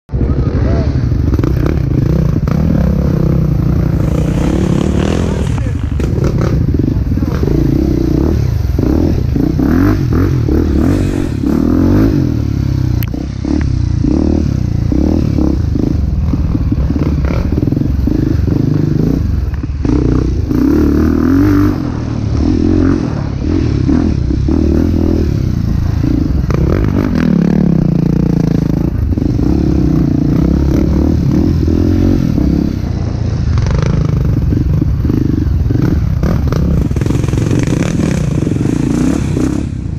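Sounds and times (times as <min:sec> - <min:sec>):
motorcycle engine revving: 0:00.1 - 0:39.9.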